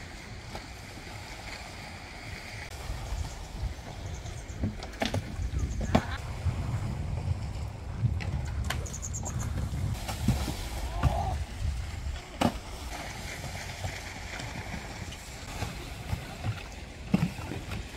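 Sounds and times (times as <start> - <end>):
wind buffeting microphone: 2.5 - 17.9.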